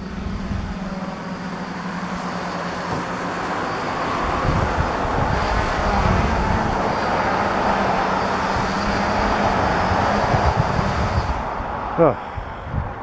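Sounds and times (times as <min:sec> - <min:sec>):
drone propellers droning: 0:00.0 - 0:13.0
wind buffeting microphone: 0:00.0 - 0:13.0.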